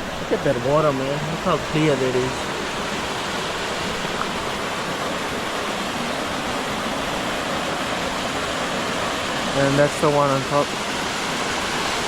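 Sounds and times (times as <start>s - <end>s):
waterfall roaring into pool: 0.0s - 12.0s.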